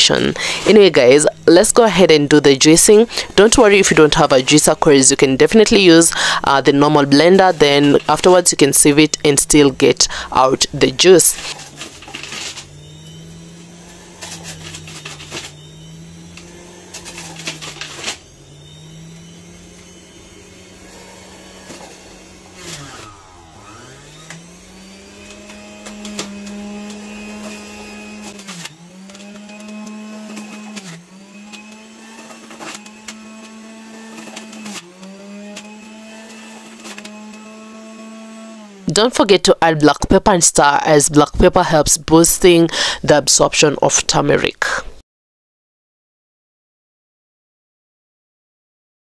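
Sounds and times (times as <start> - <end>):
juicer motor running: 0.0 - 41.5.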